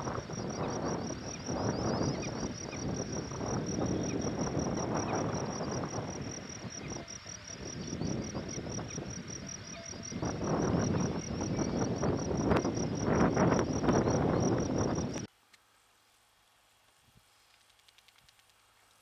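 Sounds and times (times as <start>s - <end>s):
high insect trill: 0.0s - 15.3s
wind on microphone: 0.0s - 15.3s.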